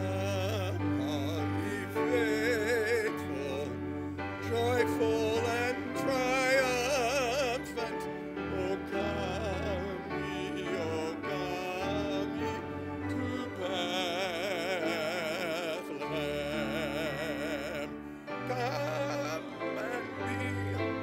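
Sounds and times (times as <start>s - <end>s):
operatic singing with vibrato: 0.0s - 21.0s
sustained instrumental accompaniment: 0.0s - 21.0s.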